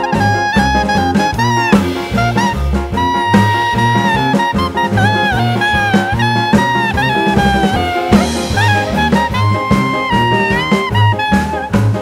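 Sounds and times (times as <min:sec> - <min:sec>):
upbeat jazz swing instrumental: 0:00.0 - 0:12.0.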